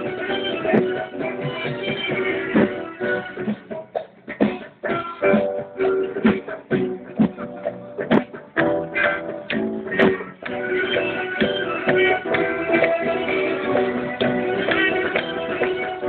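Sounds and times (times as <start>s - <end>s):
live band with horns and keyboard: 0.0s - 16.0s.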